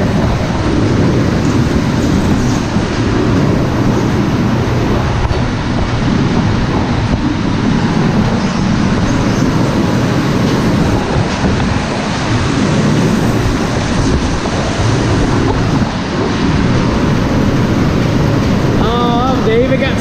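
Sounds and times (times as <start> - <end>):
machine rattling and rumbling: 0.0 - 20.0.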